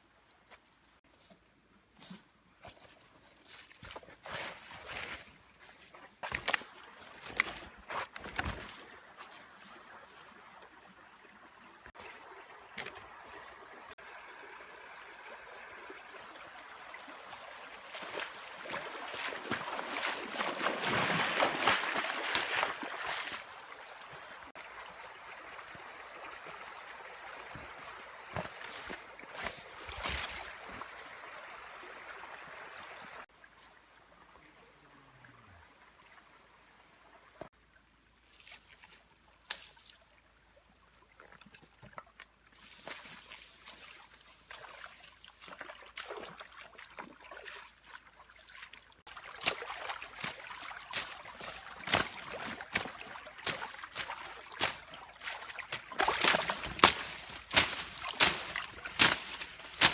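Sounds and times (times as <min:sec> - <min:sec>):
water trickling and sloshing: 0:00.2 - 0:59.9.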